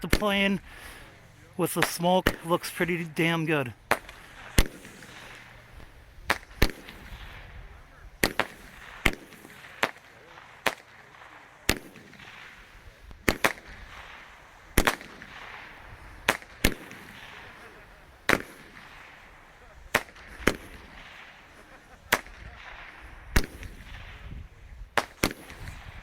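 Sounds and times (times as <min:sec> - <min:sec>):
fireworks hiss: 0:00.0 - 0:26.0
fireworks sharp reports: 0:00.0 - 0:26.0.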